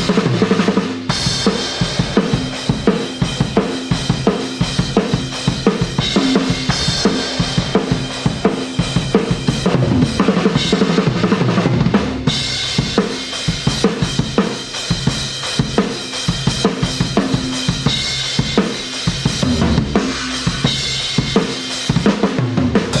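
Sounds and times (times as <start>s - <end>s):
rock drum kit: 0.0s - 23.0s
cymbal wash: 0.9s - 22.0s.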